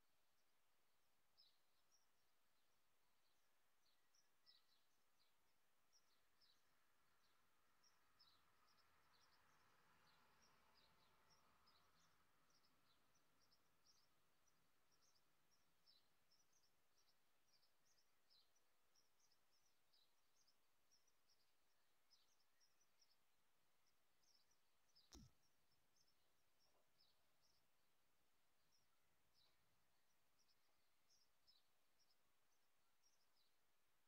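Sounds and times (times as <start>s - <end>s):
faint high bird chirps: 5.9s - 33.7s.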